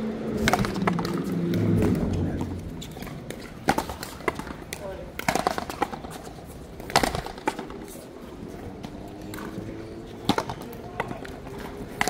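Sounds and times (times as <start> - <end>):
ball struck by paddles: 0.3 - 8.0, 8.8 - 12.0.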